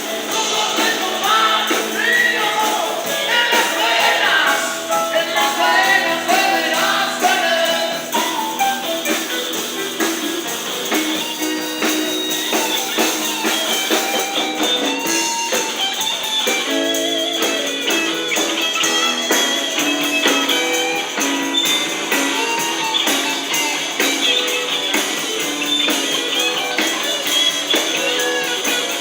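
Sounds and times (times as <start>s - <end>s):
guitar: 0.0s - 29.0s
live blues band playing: 0.0s - 29.0s.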